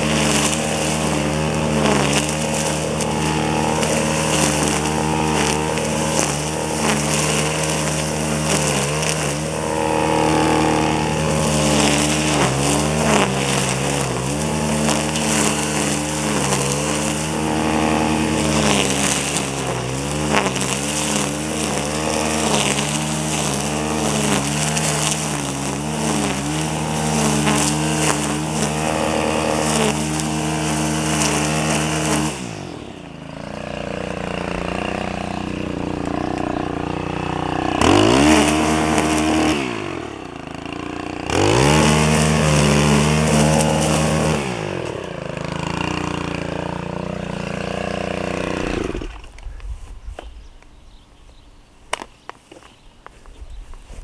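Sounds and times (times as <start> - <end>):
string trimmer engine cutting weeds: 0.0 - 54.0.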